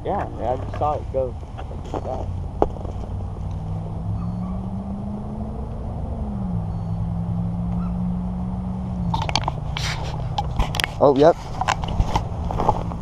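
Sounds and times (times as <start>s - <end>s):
low engine drone: 1.9s - 13.0s.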